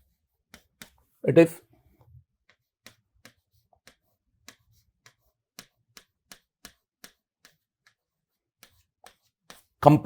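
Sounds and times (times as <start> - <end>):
pen writing clicks and taps: 0.0 - 1.2, 2.3 - 9.8.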